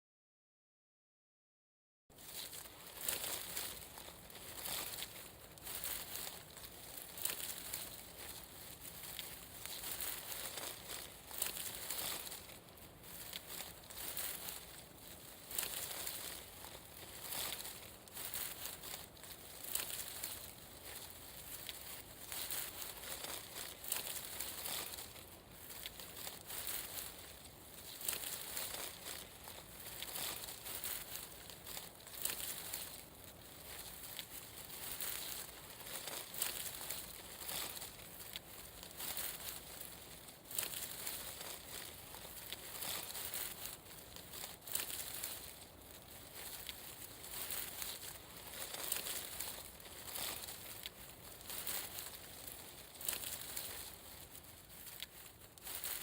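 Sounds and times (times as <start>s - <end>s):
plant leaves rustling: 2.1s - 56.0s.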